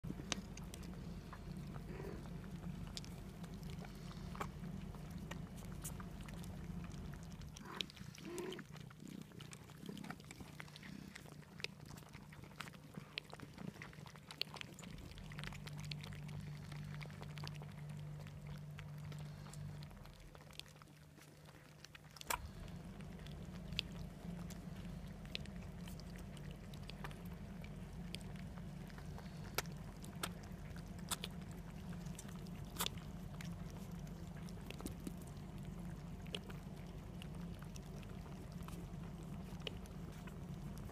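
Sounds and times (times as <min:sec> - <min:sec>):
cats lapping milk: 0:00.0 - 0:40.9
low steady hum: 0:00.0 - 0:40.9.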